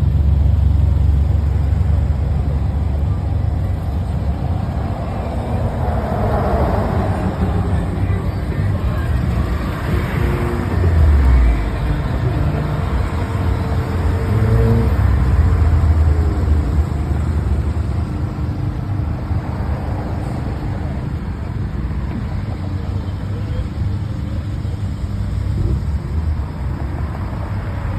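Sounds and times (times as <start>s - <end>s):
car engine running: 0.0s - 27.9s.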